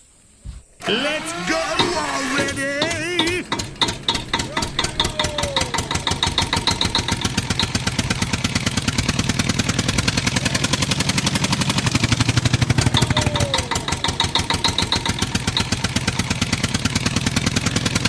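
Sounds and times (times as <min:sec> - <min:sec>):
engine chugging: 0:00.7 - 0:18.0.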